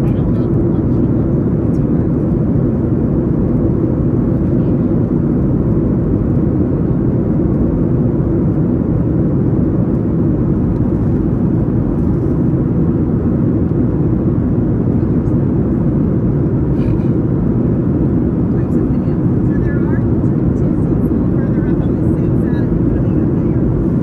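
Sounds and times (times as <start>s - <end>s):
airliner cabin engine noise: 0.0s - 24.0s.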